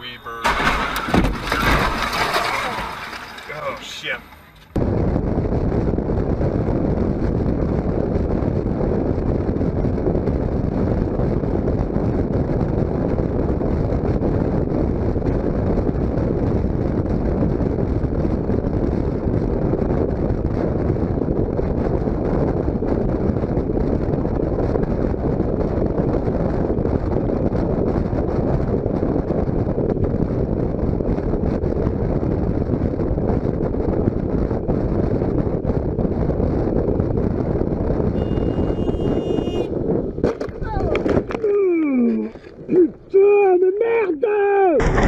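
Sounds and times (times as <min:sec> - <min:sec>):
motorcycle engine and road noise: 0:00.0 - 0:43.1
wind rushing on microphone: 0:00.5 - 0:45.0.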